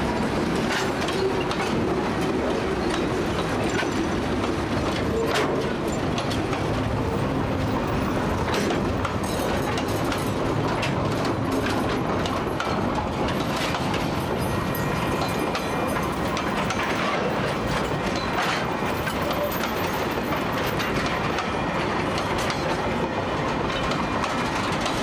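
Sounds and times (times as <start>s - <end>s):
steel wheels rumbling on rail: 0.0s - 25.0s.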